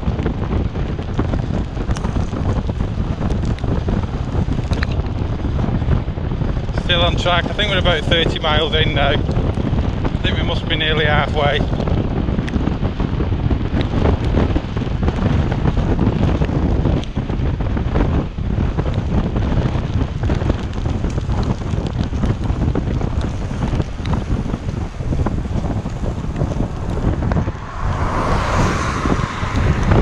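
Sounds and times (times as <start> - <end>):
knocks and rattles from road: 0.0 - 30.0
wind buffeting microphone: 0.0 - 30.0.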